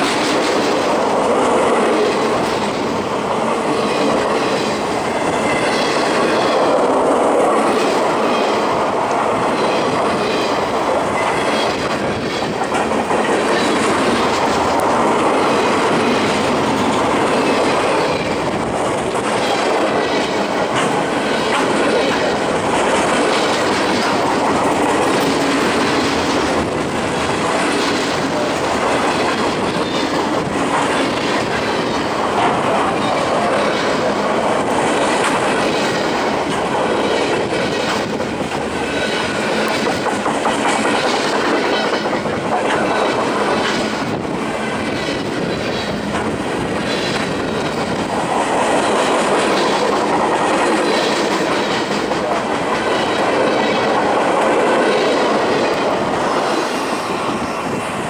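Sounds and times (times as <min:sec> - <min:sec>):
wheels clicking over track: 0:00.0 - 0:56.8
steel wheels rushing on rail: 0:00.0 - 0:58.0.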